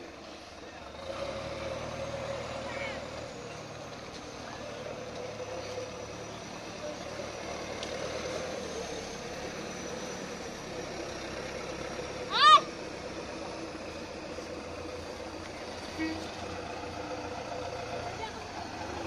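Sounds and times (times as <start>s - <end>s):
truck engine running at low revs: 0.0s - 19.0s.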